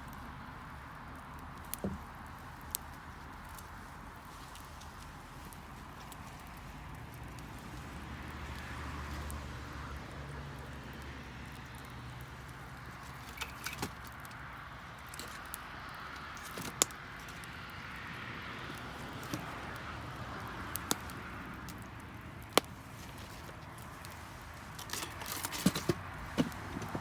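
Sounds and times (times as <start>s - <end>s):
bonfire hissing: 0.0s - 27.0s
fire pops and crackles: 0.0s - 27.0s.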